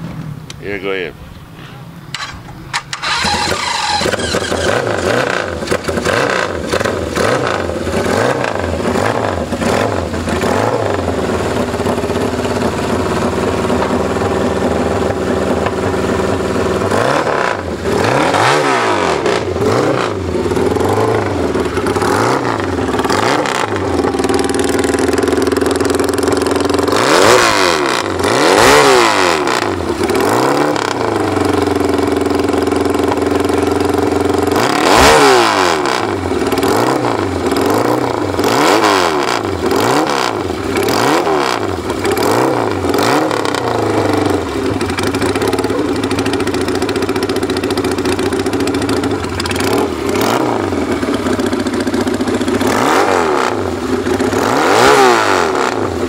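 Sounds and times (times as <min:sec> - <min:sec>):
motorcycle engine revving: 0:02.1 - 0:56.0.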